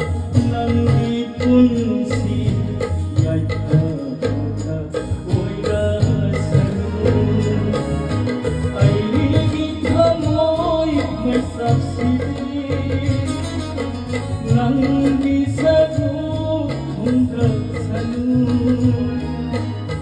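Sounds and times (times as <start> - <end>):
song with singing over beat: 0.0 - 20.0.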